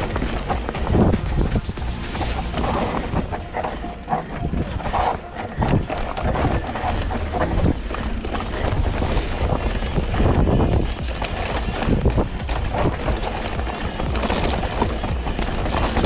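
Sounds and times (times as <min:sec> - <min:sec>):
bike clattering over bumps: 0:00.0 - 0:05.0, 0:06.9 - 0:16.0
bike tyres rumbling over dirt: 0:00.0 - 0:05.2, 0:06.8 - 0:16.0
wind buffeting microphone: 0:00.0 - 0:16.0.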